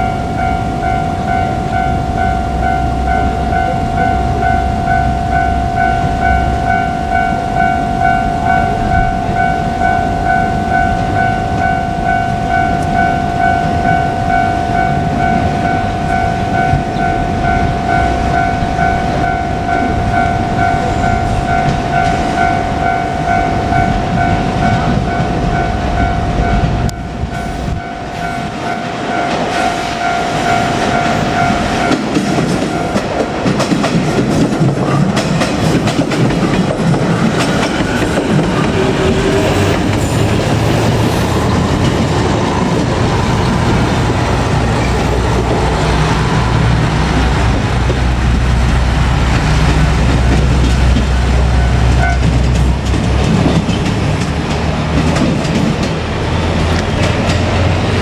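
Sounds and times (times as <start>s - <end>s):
level crossing warning bell: 0.0s - 58.0s
train rumble and wheel clatter: 0.0s - 58.0s.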